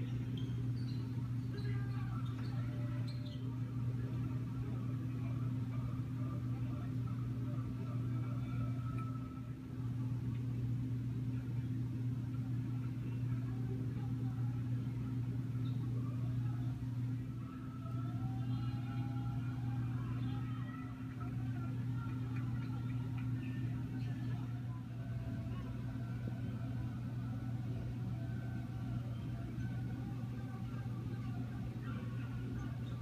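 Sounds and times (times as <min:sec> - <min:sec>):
faint indistinct background sounds: 0:00.0 - 0:33.0
steady low hum: 0:00.0 - 0:33.0.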